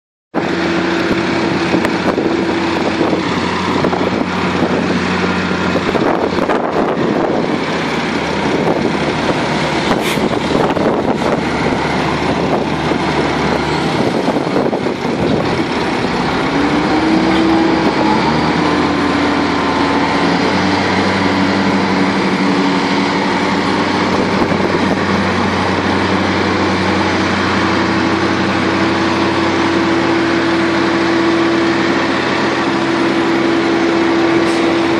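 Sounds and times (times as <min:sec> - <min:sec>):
tractor diesel engines running: 0:00.4 - 0:34.9.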